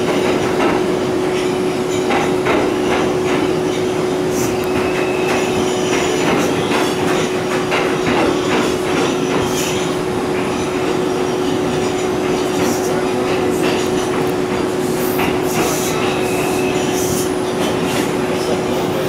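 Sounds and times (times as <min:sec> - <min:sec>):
subway car running in tunnel: 0:00.0 - 0:19.0
wheels clacking over rail joints: 0:00.0 - 0:19.0.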